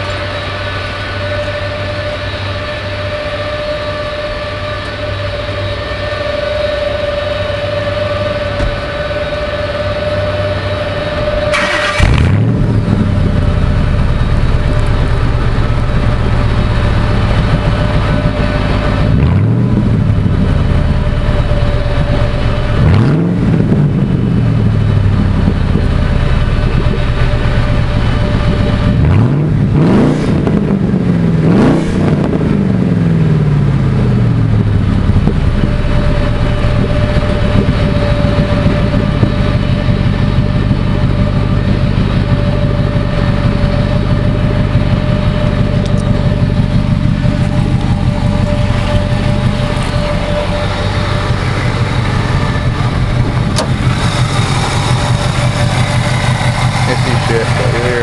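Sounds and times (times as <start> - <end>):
engine idling and revving: 0.0 - 58.0
thin whine: 0.0 - 58.0.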